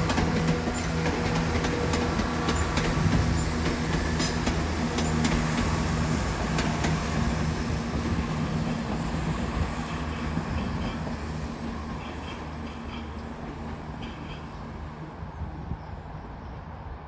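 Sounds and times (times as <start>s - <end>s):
wheels clicking on track: 0.0s - 14.4s
diesel train engine drone: 0.0s - 17.0s.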